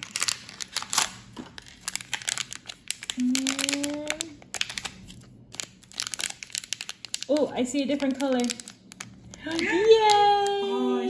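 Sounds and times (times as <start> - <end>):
packaging tearing and crinkling: 0.0 - 10.5.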